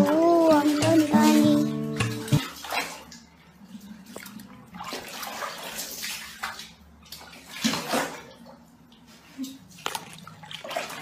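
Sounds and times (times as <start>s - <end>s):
water splashing in plastic tub: 0.0s - 11.0s.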